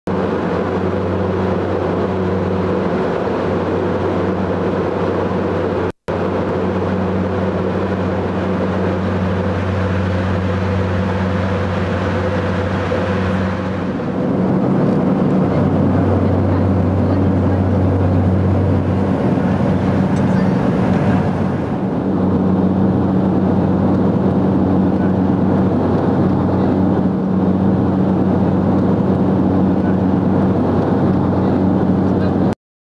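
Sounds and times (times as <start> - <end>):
airliner cabin engine drone: 0.1 - 32.6.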